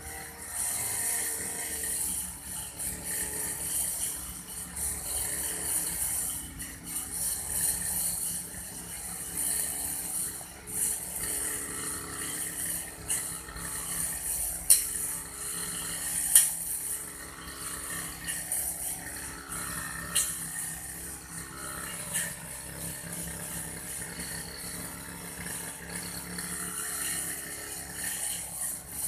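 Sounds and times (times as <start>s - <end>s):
grass-cutting machine rasping hiss: 0.0s - 29.0s.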